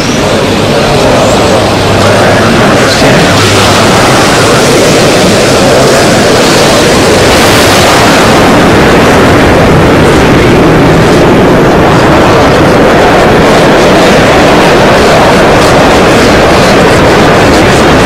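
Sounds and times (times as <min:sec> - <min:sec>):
rocket engines roaring: 0:00.0 - 0:18.0.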